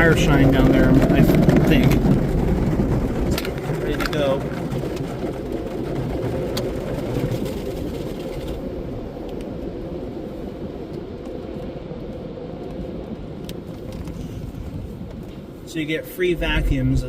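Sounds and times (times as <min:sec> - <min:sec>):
car cabin low rumble: 0:00.0 - 0:12.2, 0:13.6 - 0:17.0.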